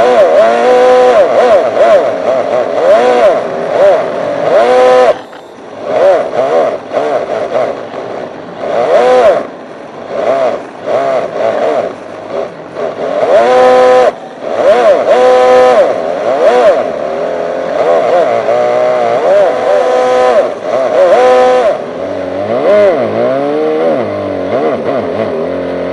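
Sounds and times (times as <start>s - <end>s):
synthetic engine sound revving: 0.0s - 25.9s.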